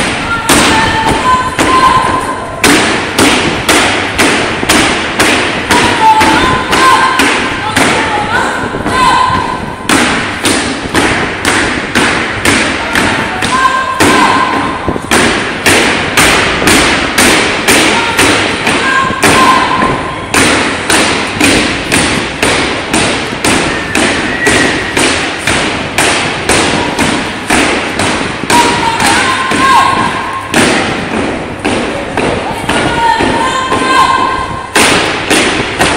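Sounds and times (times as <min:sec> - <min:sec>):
marching footsteps on gym floor: 0:00.0 - 0:35.9.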